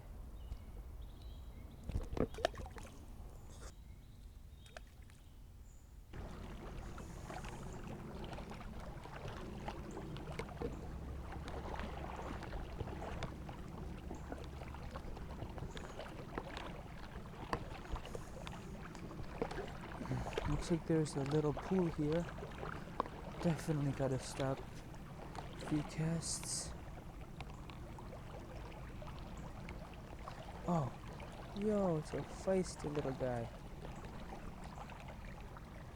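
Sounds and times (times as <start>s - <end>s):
creek water splashing: 1.6s - 3.7s, 6.1s - 35.9s.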